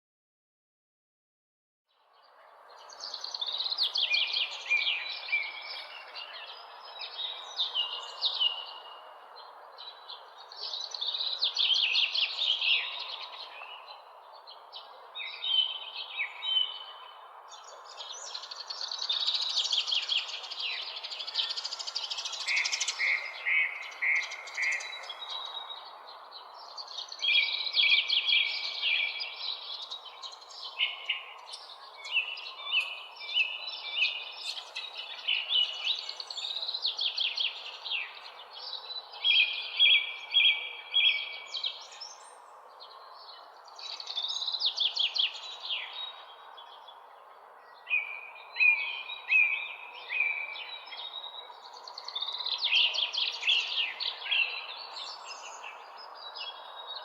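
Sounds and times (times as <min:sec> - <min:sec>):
birds chirping: 0:02.3 - 0:57.0.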